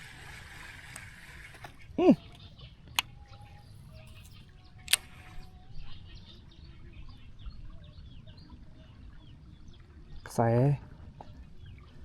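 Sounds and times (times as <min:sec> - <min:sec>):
small birds chirping: 0:01.4 - 0:12.0.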